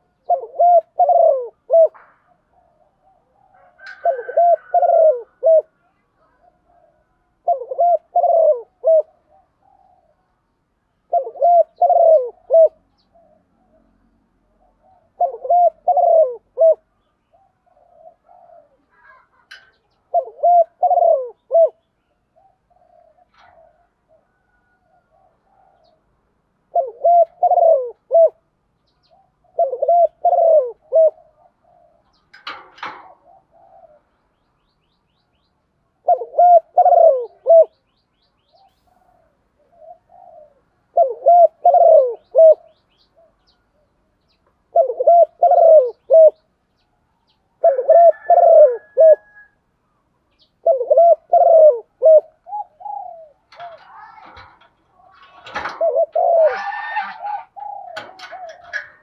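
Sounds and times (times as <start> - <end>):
dove cooing: 0.0 - 10.4, 11.0 - 34.2, 36.0 - 46.5, 47.5 - 49.6, 50.4 - 59.0.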